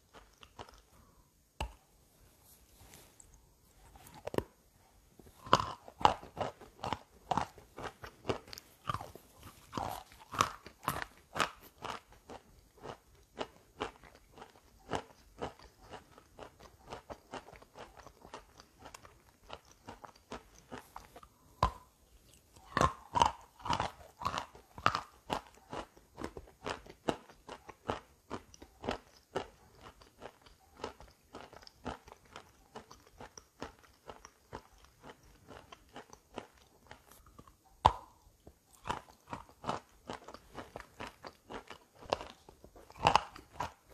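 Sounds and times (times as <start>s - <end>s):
chewing and crunching chalk: 0.0s - 1.9s, 5.3s - 43.9s.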